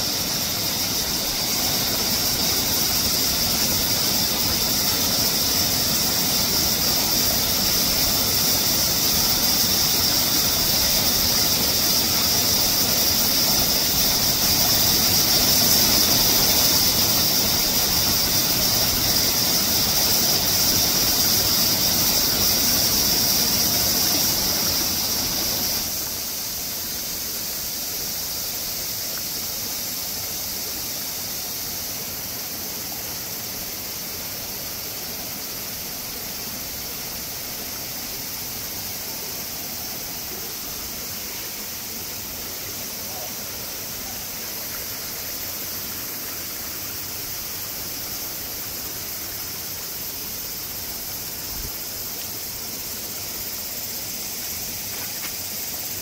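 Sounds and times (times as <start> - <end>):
cicadas droning: 0.0 - 56.0
mountain stream rushing: 0.0 - 56.0.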